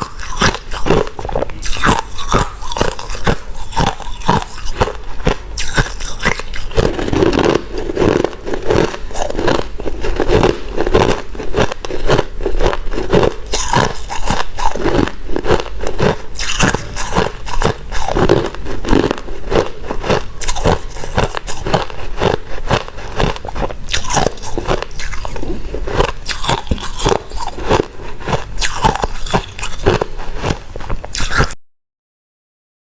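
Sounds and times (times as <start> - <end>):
ice being chewed: 0.0 - 31.6.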